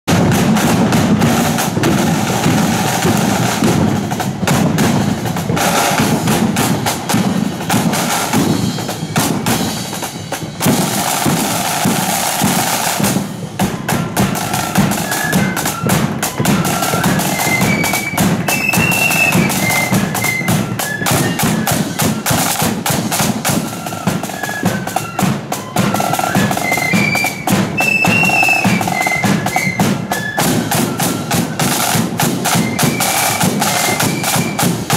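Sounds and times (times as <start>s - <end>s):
flutes playing a melody: 0.1s - 34.9s
snare drums beating: 0.1s - 34.9s.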